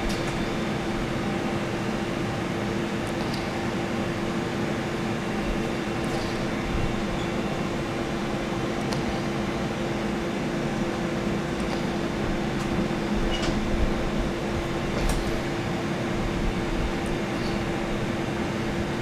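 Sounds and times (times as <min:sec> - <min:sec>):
ventilation fan humming: 0:00.0 - 0:19.0.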